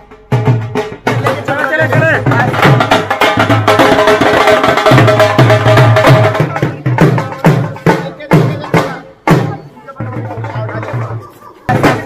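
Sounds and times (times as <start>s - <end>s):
large drums beaten with sticks: 0.0s - 12.0s.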